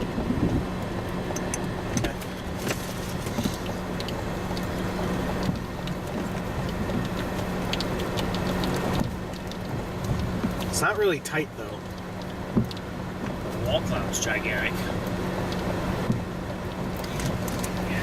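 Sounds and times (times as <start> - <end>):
car engine and road hum: 0.0 - 18.0
raindrops ticking on car: 0.0 - 18.0.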